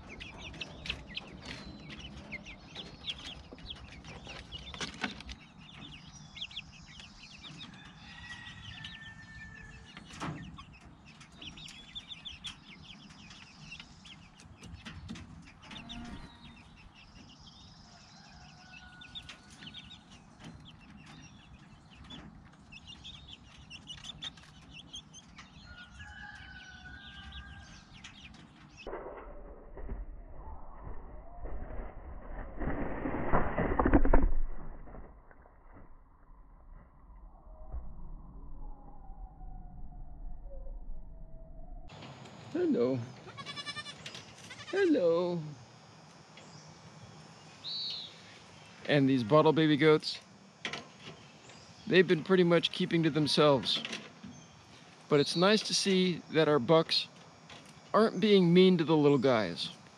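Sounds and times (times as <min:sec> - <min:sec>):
chickens cheeping and clucking: 0:00.0 - 0:31.9, 0:41.8 - 0:59.9.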